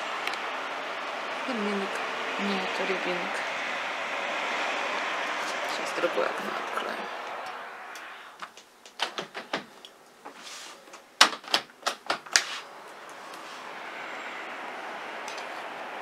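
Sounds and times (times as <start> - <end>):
outdoor hum: 0.0 - 16.0.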